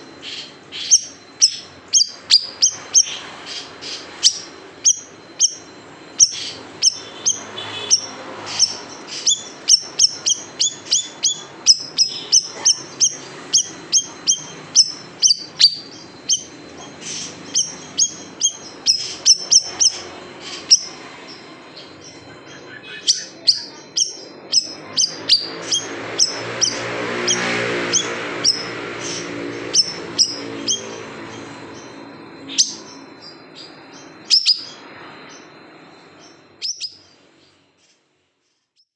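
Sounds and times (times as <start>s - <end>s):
songbird chirping: 0.0s - 38.0s.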